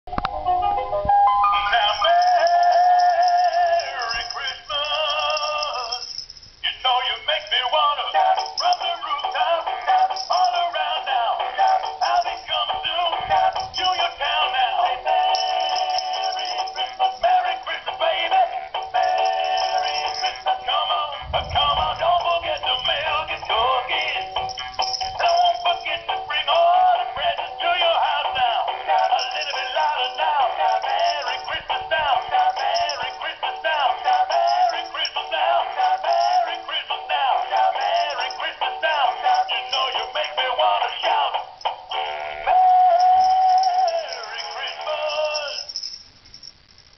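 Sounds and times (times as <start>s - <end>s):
toy singing through tinny speaker: 1.2s - 45.8s.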